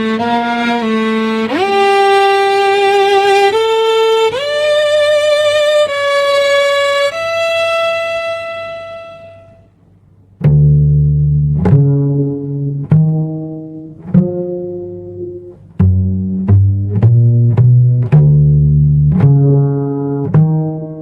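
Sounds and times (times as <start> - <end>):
slow instrumental music: 0.0 - 21.0.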